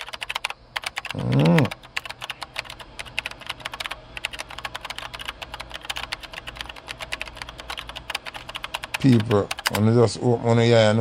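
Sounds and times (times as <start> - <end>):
rapid light clicking: 0.0 - 9.8.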